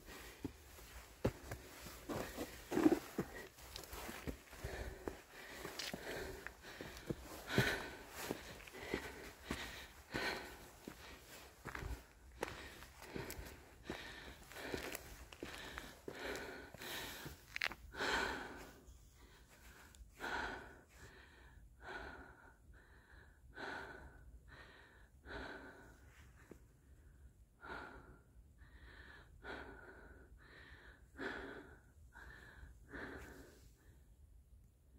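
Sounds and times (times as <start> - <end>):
person breathing hard: 0.0 - 34.3.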